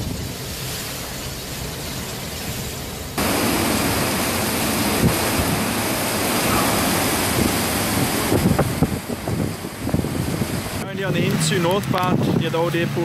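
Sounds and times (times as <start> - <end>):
torrential rain in wind: 0.0 - 13.0.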